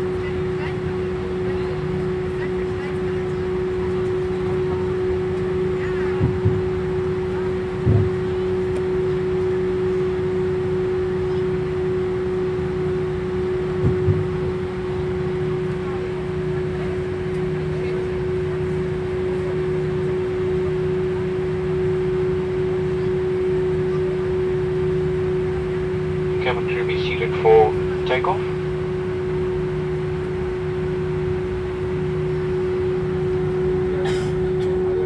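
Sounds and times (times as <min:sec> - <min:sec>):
airliner cabin engine drone: 0:00.0 - 0:35.0.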